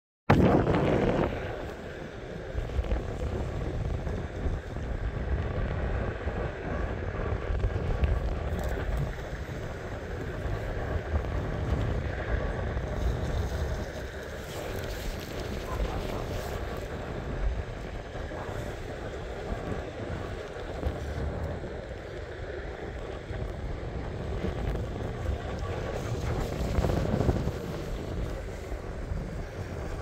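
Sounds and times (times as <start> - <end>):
wheels rolling over rough asphalt: 0.3 - 30.0
wind buffeting microphone: 0.3 - 30.0.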